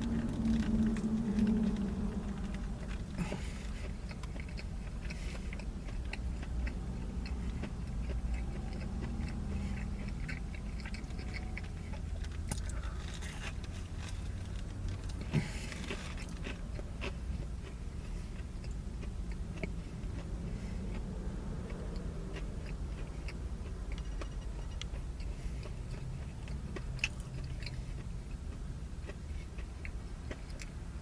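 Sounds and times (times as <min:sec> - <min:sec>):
muffled highway traffic rumble: 0:00.0 - 0:31.0
person chewing crispy food: 0:00.0 - 0:31.0.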